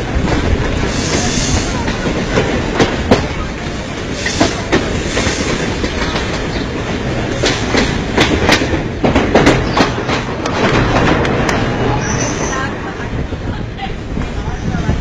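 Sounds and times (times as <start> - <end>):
train wheels clattering over rail joints: 0.0 - 13.4.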